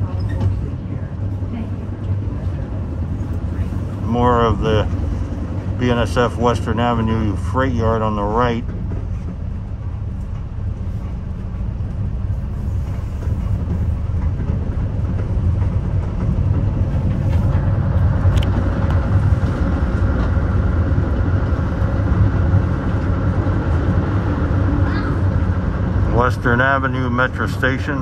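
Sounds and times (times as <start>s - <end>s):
low rumble of wheels on rail: 0.0s - 28.0s.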